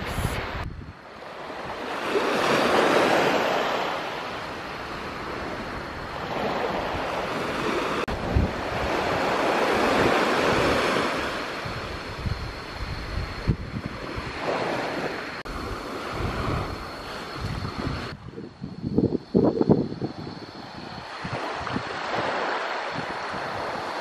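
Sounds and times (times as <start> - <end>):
wind thumping on microphone: 0.0 - 1.0, 5.1 - 24.0
small waves washing onto beach: 0.0 - 18.3, 20.1 - 24.0.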